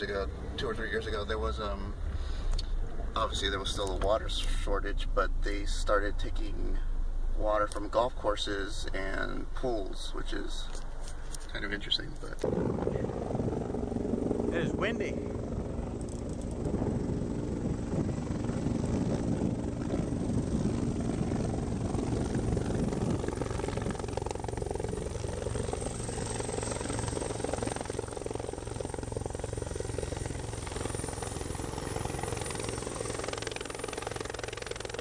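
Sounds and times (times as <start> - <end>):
helicopter rotor beat: 0.0 - 6.7, 7.8 - 35.0.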